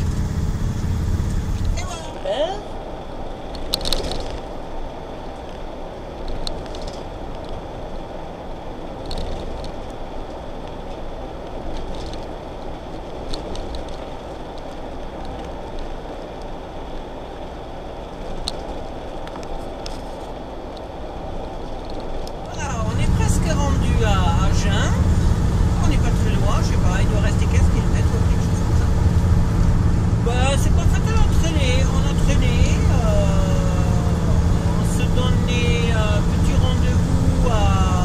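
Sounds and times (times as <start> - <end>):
engine and tyre drone: 0.0 - 38.0.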